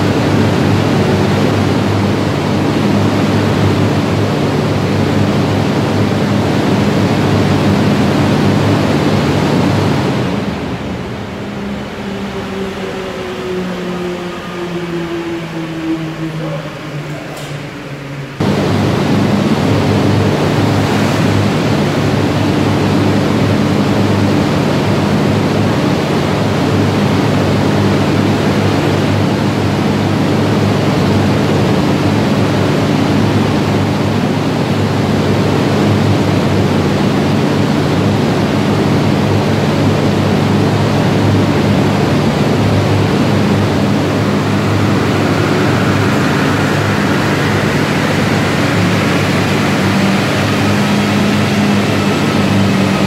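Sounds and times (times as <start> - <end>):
car engine on dynamometer: 0.0 - 53.0
rising engine whine: 0.0 - 53.0
rush of air and roller noise: 0.0 - 53.0.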